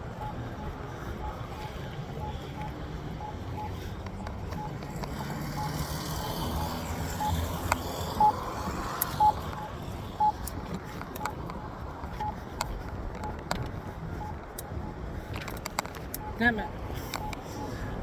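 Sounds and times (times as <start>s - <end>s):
passing traffic rumble: 0.0s - 18.0s
short electronic beeps: 0.1s - 10.6s, 11.2s - 13.4s, 14.1s - 15.3s, 16.0s - 18.0s.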